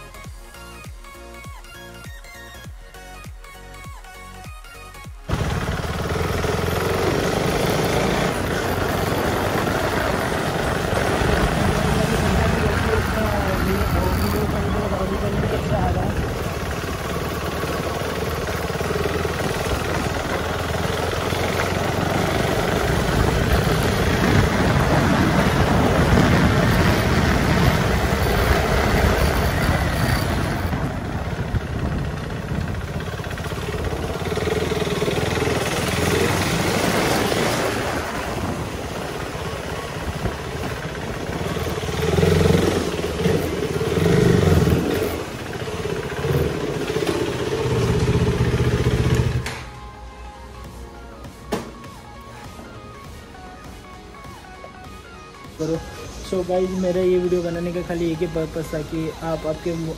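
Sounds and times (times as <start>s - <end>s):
motorcycle engine running: 5.0s - 59.9s.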